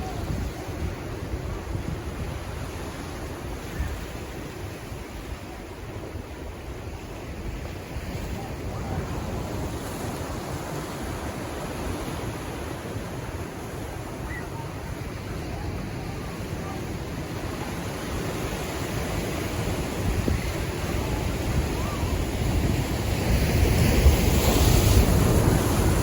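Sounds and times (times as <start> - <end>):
ocean waves surf: 0.0 - 26.0.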